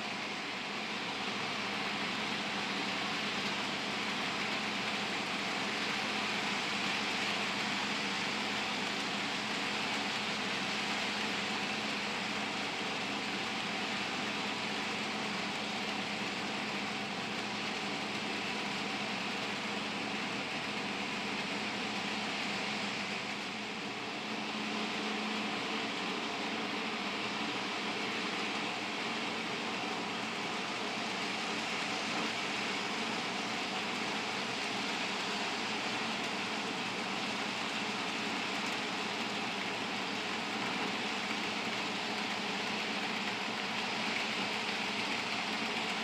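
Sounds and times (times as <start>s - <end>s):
model train wheels whirring: 0.0s - 46.0s.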